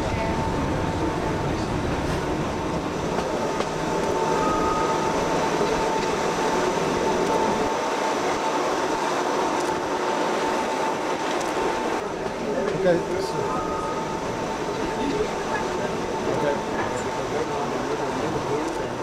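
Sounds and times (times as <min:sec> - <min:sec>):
constant train whine: 0:00.0 - 0:19.0
train wheels rumbling: 0:00.0 - 0:19.0.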